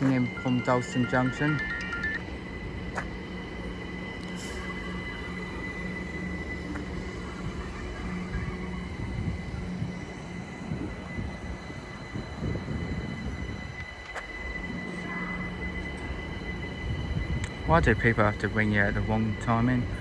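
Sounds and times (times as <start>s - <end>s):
electric train hum and rumble: 0.0s - 20.0s
high train whine: 0.0s - 20.0s.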